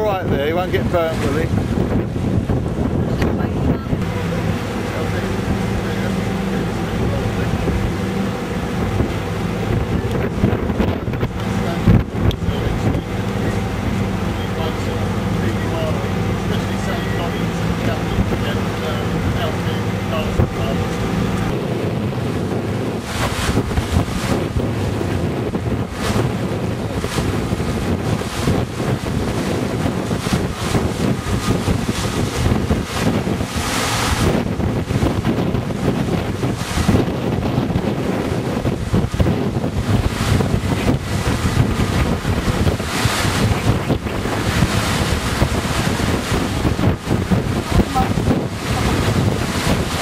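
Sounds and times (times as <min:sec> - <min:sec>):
rush of wind and water: 0:00.0 - 0:50.0
wind buffeting microphone: 0:00.0 - 0:50.0.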